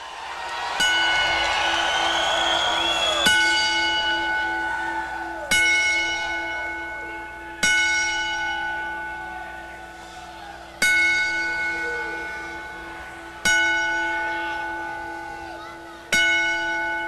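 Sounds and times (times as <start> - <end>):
ring bell struck: 0.5 - 17.0.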